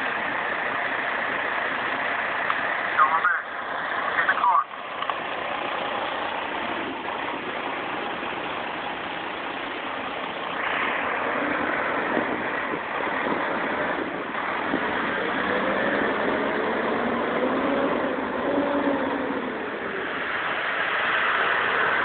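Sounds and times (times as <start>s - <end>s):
hiss of rain and water: 0.0s - 17.0s, 18.0s - 22.0s
fire engine driving: 0.0s - 22.0s.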